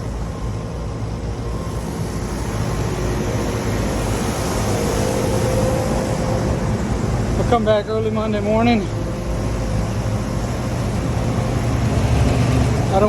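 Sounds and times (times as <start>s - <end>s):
faint steady tone: 0.0s - 13.0s
hvac fan and compressor noise: 0.0s - 13.0s.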